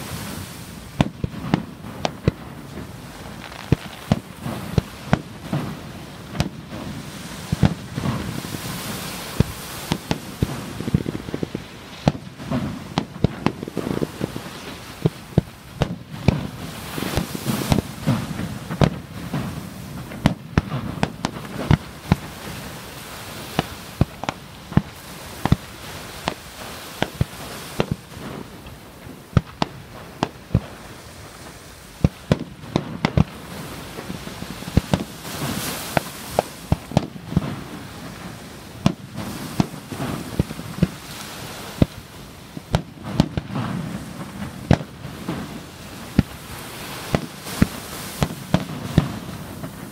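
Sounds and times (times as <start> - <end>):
fireworks bursting: 0.0 - 49.9
rumbling and crackling: 0.0 - 49.9.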